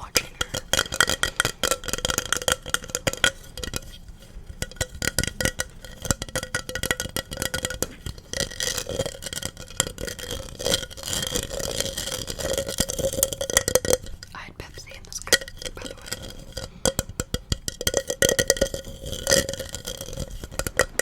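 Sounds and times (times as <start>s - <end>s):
tapping on hard objects: 0.0s - 14.3s, 15.2s - 21.0s.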